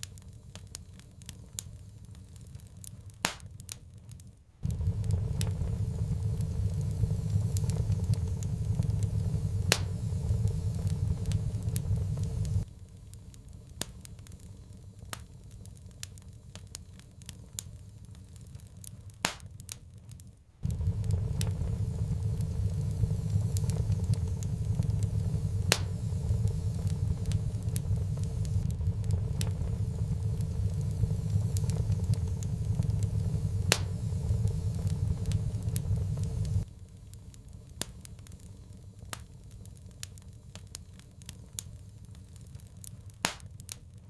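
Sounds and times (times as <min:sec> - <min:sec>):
low rumble of fire: 0:00.0 - 0:44.0
sharp pops of fire: 0:00.0 - 0:44.0
wood fire crackling: 0:00.0 - 0:44.0.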